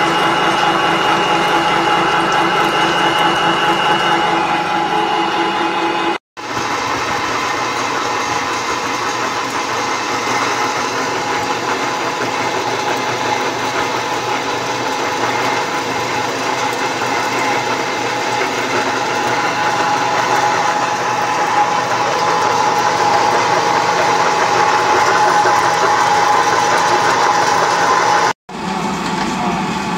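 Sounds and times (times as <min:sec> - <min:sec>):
pellet mill whining: 0:00.0 - 0:29.9.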